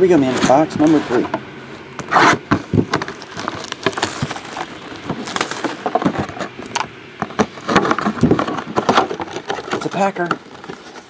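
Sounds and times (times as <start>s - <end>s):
cardboard scraping: 0.0s - 11.0s
cardboard box clicks and rustles: 2.1s - 11.0s.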